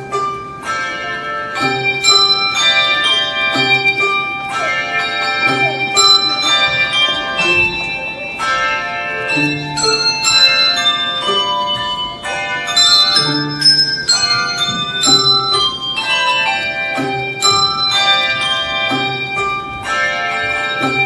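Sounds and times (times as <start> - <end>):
handbell choir playing: 0.0 - 21.0.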